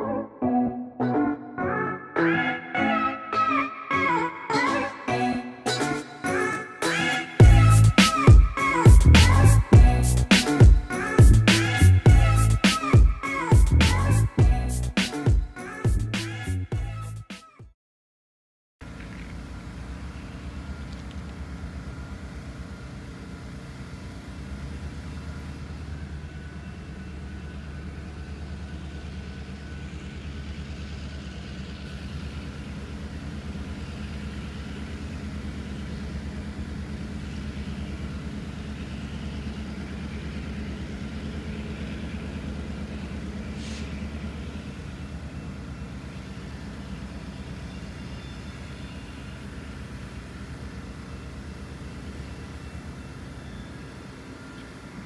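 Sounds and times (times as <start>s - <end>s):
diesel locomotive engine rumbling: 6.4s - 17.3s, 18.8s - 55.0s.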